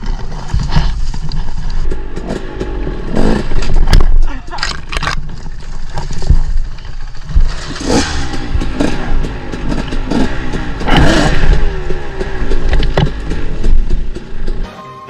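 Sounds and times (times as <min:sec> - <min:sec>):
bike knocking and clattering: 0:00.0 - 0:14.6
dirt bike engine revving: 0:01.3 - 0:14.6.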